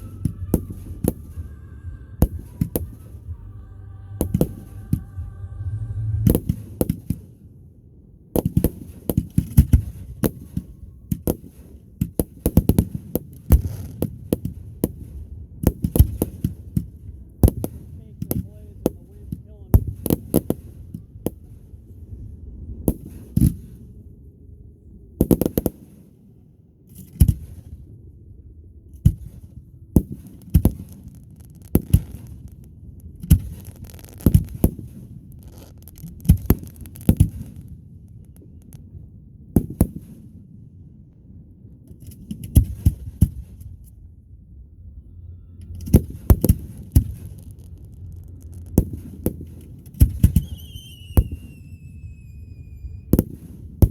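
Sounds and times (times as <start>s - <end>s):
fireworks bangs: 0.0s - 7.6s, 8.4s - 24.1s, 25.2s - 26.2s, 29.0s - 40.7s, 41.9s - 43.9s, 45.7s - 53.9s
low rumble: 0.0s - 53.9s.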